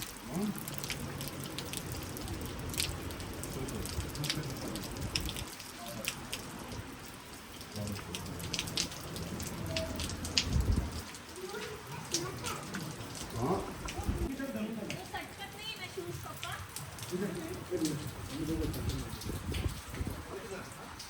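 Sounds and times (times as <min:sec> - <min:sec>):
raindrops ticking: 0:00.0 - 0:21.0
steady rain falling: 0:00.0 - 0:21.0.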